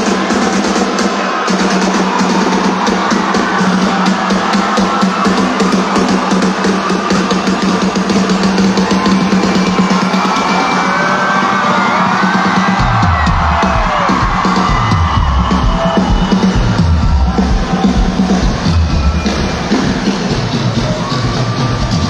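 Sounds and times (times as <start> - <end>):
fast dense drumming: 0.0 - 22.0.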